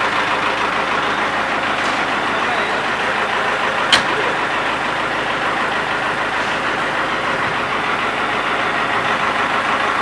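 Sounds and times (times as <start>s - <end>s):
fire engine motor idling: 0.0s - 10.0s.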